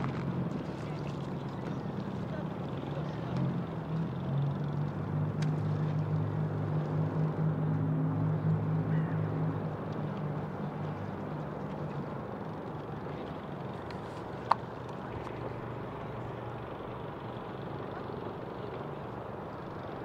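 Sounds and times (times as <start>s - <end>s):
boat engine humming: 0.0s - 20.0s
outdoor background noise: 0.0s - 20.0s.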